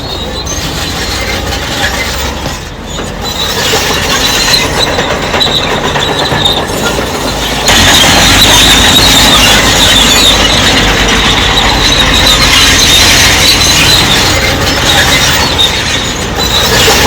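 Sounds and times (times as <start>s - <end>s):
crawler tracks screeching: 0.0s - 17.0s
diesel engine rumble: 0.0s - 17.0s.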